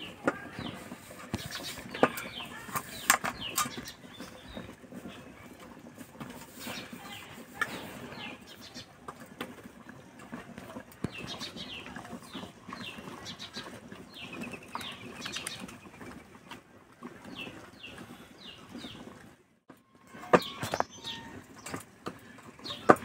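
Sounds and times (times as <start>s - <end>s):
birds chirping: 0.0s - 19.2s, 20.0s - 23.0s
dough squelching while kneaded: 0.0s - 23.0s.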